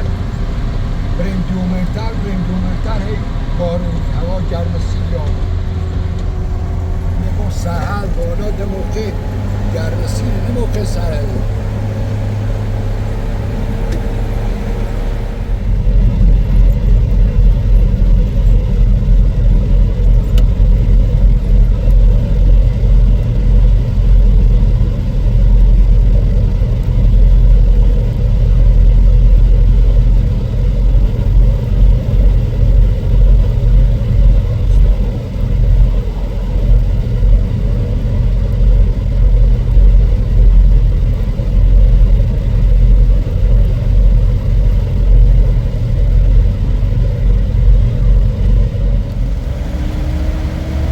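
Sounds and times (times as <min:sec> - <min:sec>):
vehicle engine and road rumble: 0:00.0 - 0:50.9.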